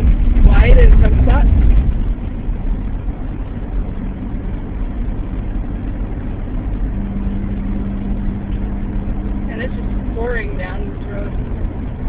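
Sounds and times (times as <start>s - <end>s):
car engine and road noise: 0.0s - 12.0s
low steady hum: 0.0s - 12.0s.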